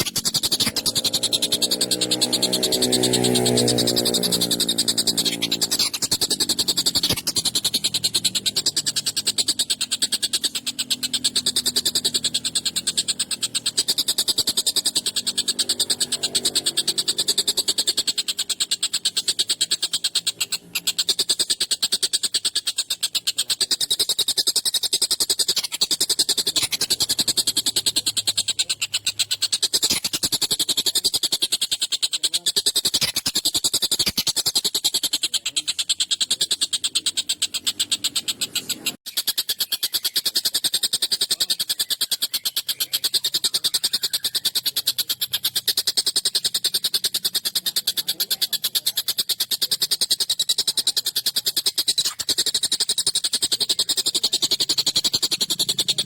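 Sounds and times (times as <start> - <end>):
kingfisher chattering call: 0.0 - 56.0.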